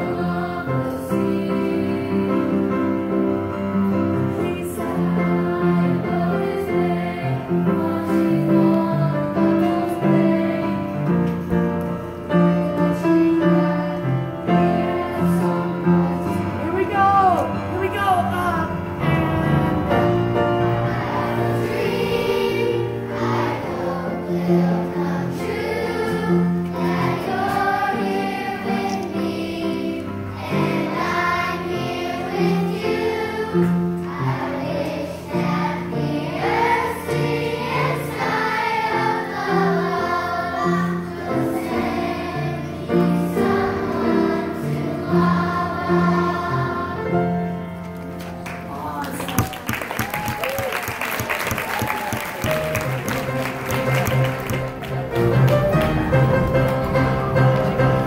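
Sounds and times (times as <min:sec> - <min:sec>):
children's choir singing: 0:00.0 - 0:47.9, 0:51.3 - 0:58.0
instrumental accompaniment: 0:00.1 - 0:48.7, 0:52.1 - 0:58.0.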